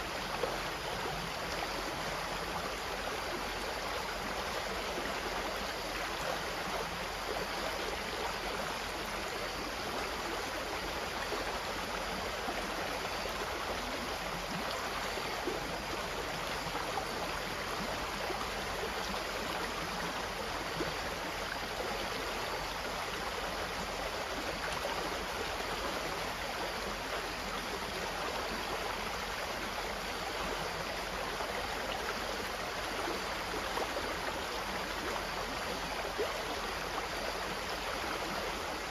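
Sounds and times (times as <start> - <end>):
stream water flowing and splashing: 0.0 - 38.9.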